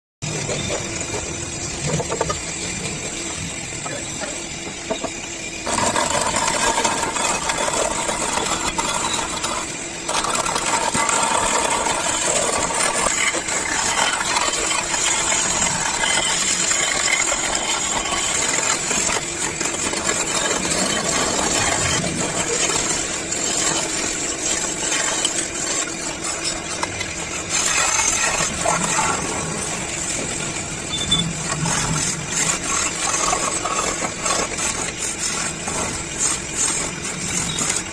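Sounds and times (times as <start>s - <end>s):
tool scraping spinning wood: 0.2s - 37.9s
wood lathe running: 0.2s - 37.9s.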